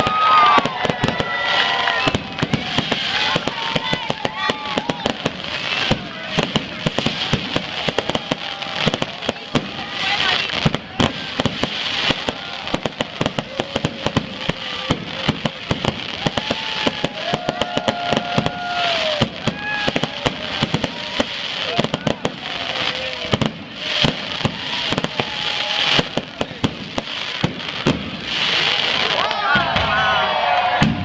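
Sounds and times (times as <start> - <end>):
voices calling out: 0.0 - 27.7
fireworks popping and crackling: 0.0 - 31.0.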